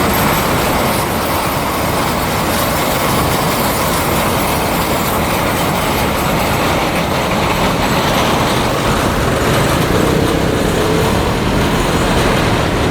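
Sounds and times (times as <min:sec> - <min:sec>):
freight train rumbling past: 0:00.0 - 0:12.9
wheel squeal: 0:00.0 - 0:12.9.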